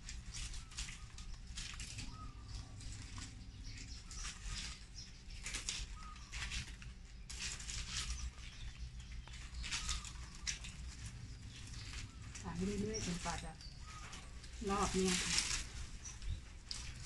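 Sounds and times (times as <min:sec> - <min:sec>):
palm leaf strips rustling: 0:00.0 - 0:17.0.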